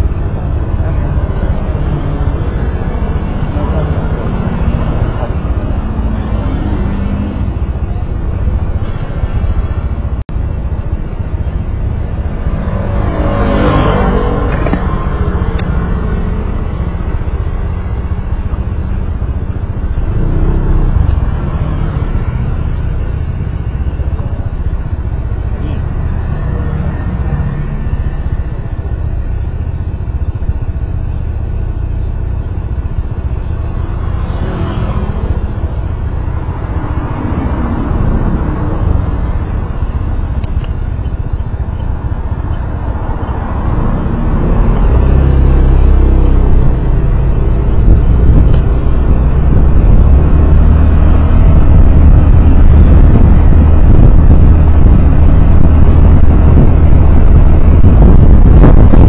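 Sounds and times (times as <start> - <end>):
tyre and road noise: 0.0 - 59.0
vehicle engine: 0.0 - 59.0.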